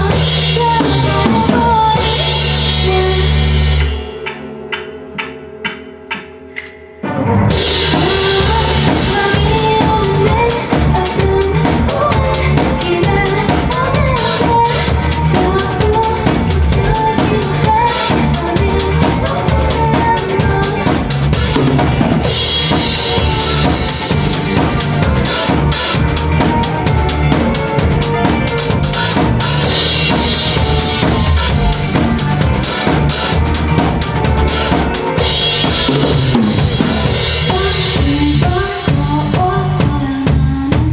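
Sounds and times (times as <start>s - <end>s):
drum kit beat: 0.0s - 40.9s
live band playing: 0.0s - 40.9s.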